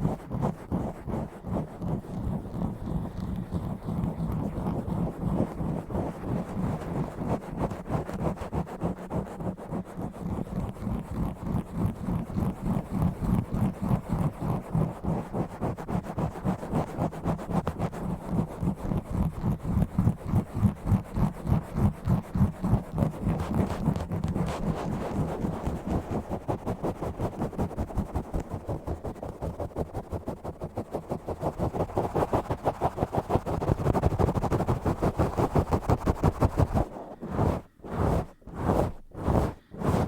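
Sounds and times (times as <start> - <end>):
scratching on microphone: 0.0 - 40.0.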